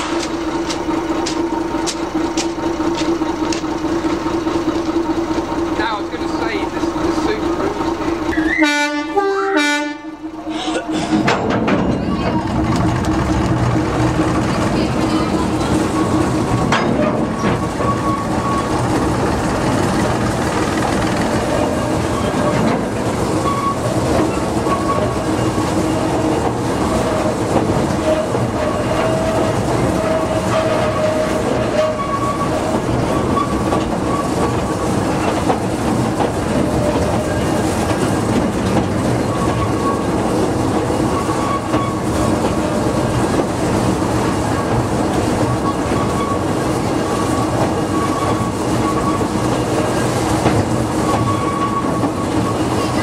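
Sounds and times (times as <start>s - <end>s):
diesel locomotive engine: 0.0s - 53.0s
train wheels clattering over track: 0.0s - 53.0s.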